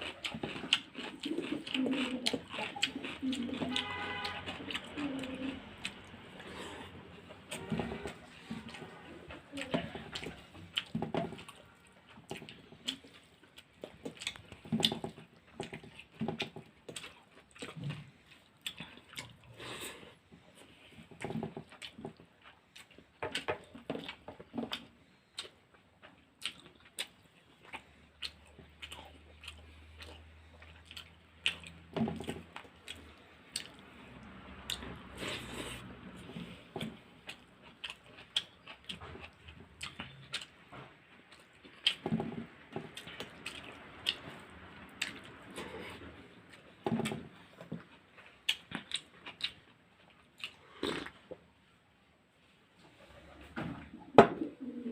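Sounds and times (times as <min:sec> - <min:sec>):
food crunching: 0:00.0 - 0:19.9, 0:20.7 - 0:51.5
person chewing food: 0:00.0 - 0:51.7.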